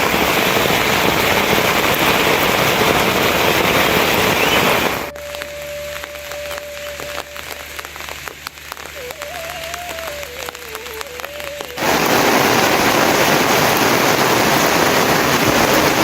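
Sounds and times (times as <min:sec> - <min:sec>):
heavy rain hiss: 0:00.0 - 0:16.0.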